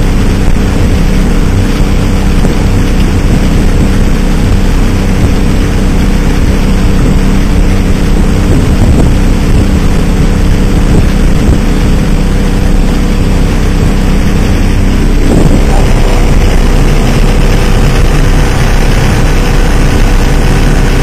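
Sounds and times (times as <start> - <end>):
outboard motor droning: 0.0 - 21.0
water rushing: 0.0 - 21.0.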